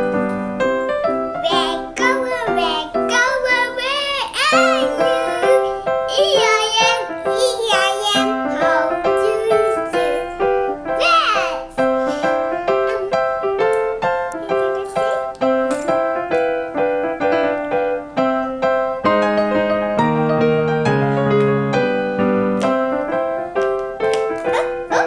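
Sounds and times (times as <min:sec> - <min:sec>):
bouncy electric piano melody: 0:00.0 - 0:25.0.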